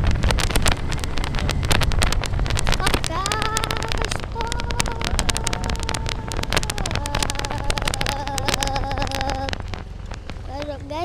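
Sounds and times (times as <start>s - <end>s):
road bumps knocking on mic: 0.0s - 10.8s
motorbike engine whine: 0.0s - 11.0s
wind buffeting microphone: 0.0s - 11.0s.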